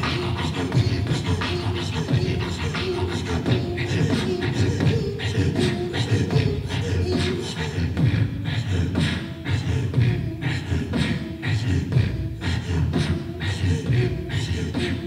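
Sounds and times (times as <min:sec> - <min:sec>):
beatboxed vocal percussion: 0:00.0 - 0:15.0
low pulsing throat singing: 0:00.0 - 0:15.0.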